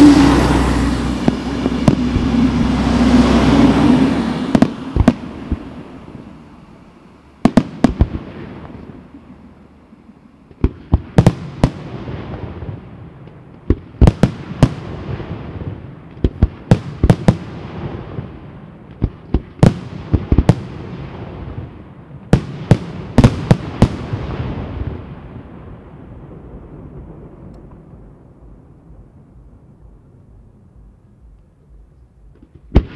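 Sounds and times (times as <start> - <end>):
rolling echo: 0.0 - 32.9.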